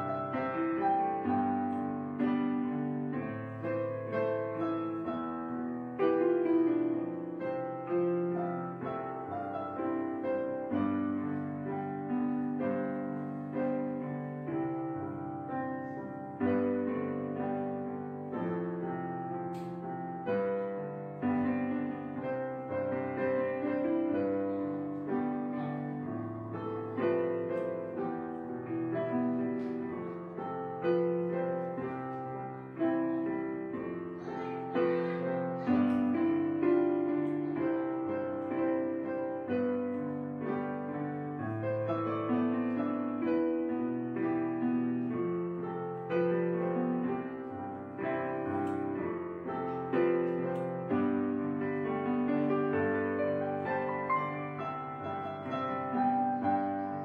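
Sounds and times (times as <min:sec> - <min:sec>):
slow piano melody: 0:00.0 - 0:57.0.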